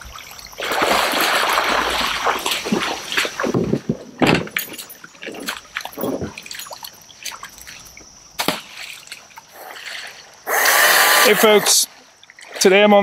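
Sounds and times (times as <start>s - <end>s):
sharp water splash: 0.0s - 3.8s, 5.4s - 12.8s
wading splashes in creek water: 0.0s - 13.0s.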